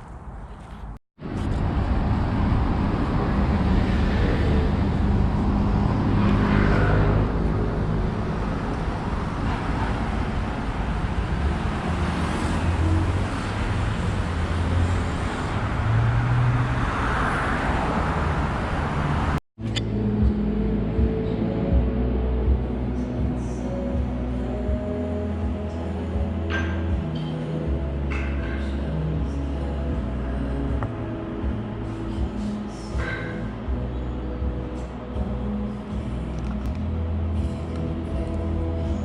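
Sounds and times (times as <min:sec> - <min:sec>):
cars passing on city road: 0:00.0 - 0:39.0.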